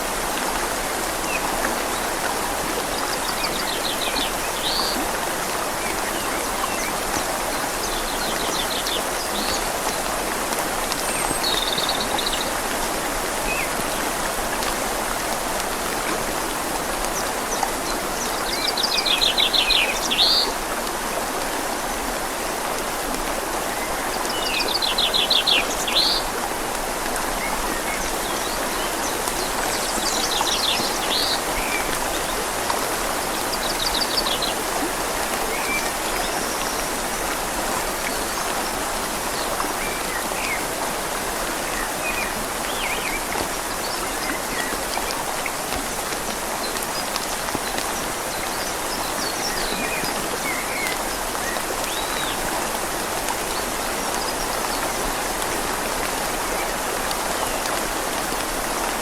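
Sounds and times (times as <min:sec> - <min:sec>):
rain falling on leaves: 0:00.0 - 0:59.0
river flowing: 0:00.0 - 0:59.0.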